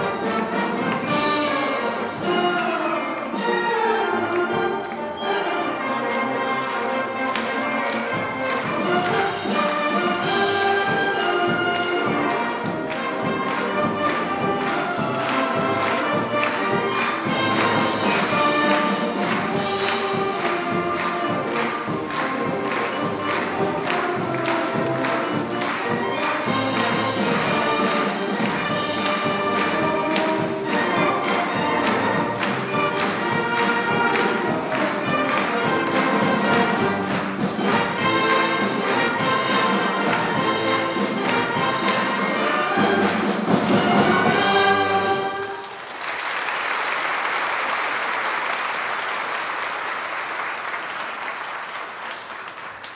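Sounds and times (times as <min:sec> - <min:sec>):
wind band playing swing: 0:00.0 - 0:45.8
audience applauding: 0:00.1 - 0:52.9.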